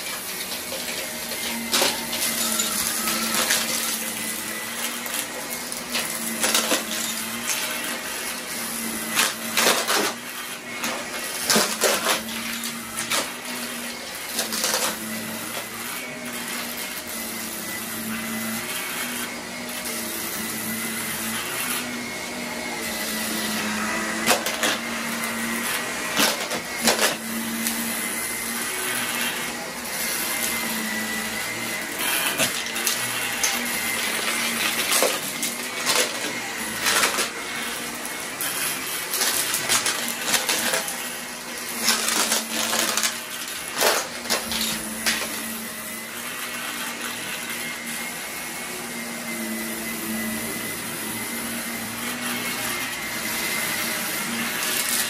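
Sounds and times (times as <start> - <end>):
vacuum cleaner motor hum: 0.0 - 55.0.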